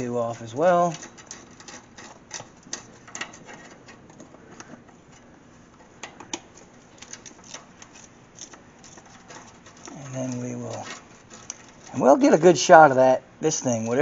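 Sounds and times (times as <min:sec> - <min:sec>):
hand tools clicking and tapping: 0:00.0 - 0:12.0.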